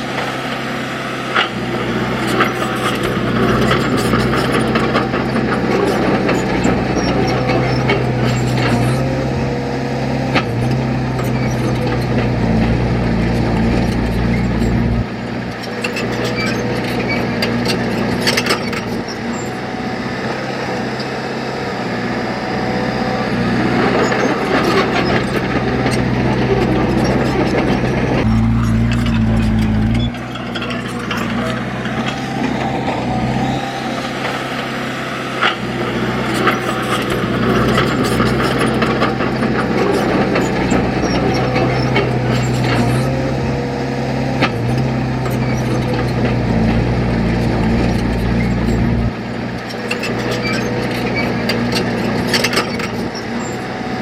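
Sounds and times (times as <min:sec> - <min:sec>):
diesel engine of earthmoving machine: 0:00.0 - 0:54.0.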